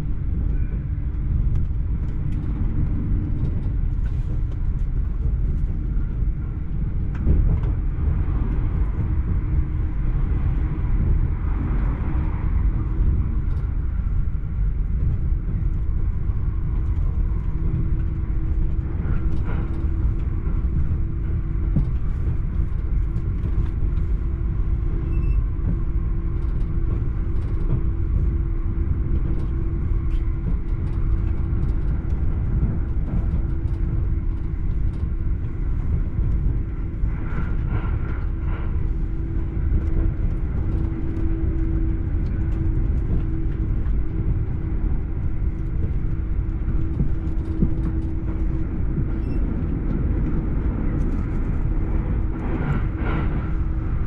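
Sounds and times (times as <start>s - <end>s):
constant hum: 0.0s - 54.0s
train rumbling inside passenger car: 0.0s - 54.0s.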